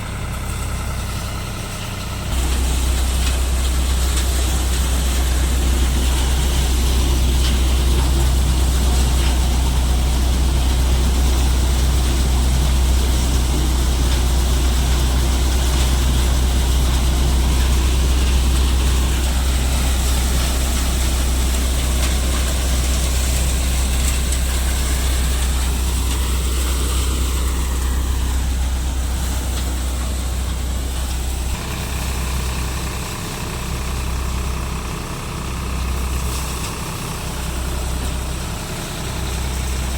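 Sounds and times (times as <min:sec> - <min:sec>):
thresher machine noise: 0:00.0 - 0:39.9
tractor engine running: 0:00.0 - 0:39.9.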